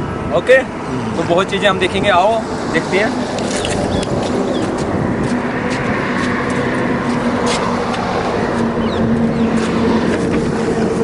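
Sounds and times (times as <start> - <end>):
highway traffic passing: 0.0 - 11.0
vehicle engine hum: 0.0 - 11.0.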